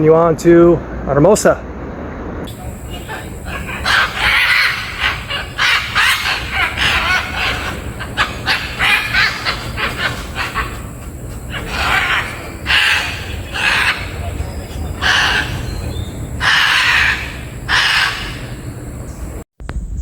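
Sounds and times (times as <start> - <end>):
low steady rumble: 0.8 - 20.0
birds squawking: 2.5 - 19.4.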